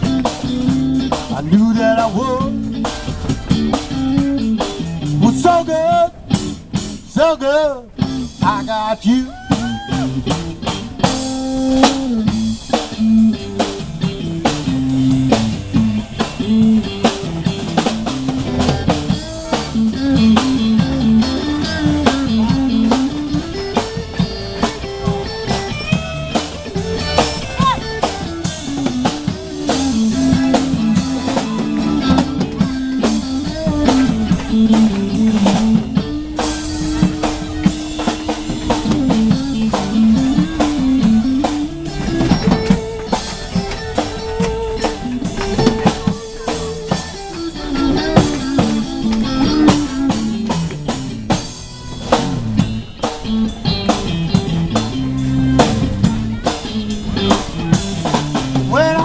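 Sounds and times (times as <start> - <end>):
bass line: 0.0 - 7.2, 7.9 - 59.0
drum kit beat: 0.0 - 7.2, 7.8 - 59.0
electric guitar: 0.0 - 59.0.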